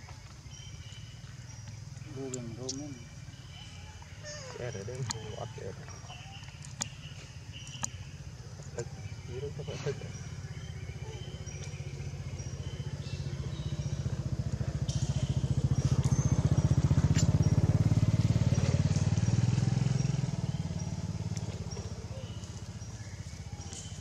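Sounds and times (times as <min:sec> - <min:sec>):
vehicle engine passing: 0:02.0 - 0:24.0.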